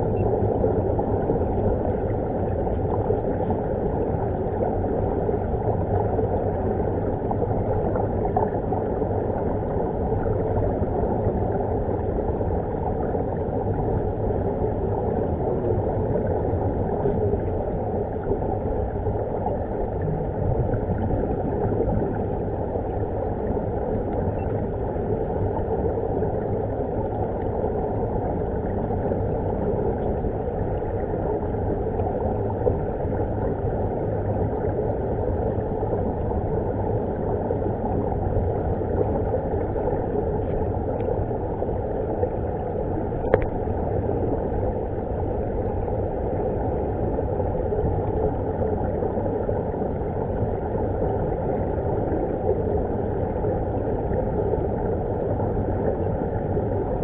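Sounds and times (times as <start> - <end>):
underwater rumble and rush: 0.0 - 57.0.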